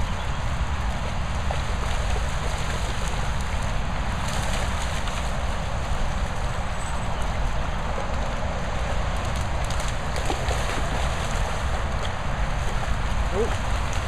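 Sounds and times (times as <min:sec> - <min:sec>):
dogs splashing through water: 0:00.0 - 0:14.0
wind rumble on microphone: 0:00.0 - 0:14.0.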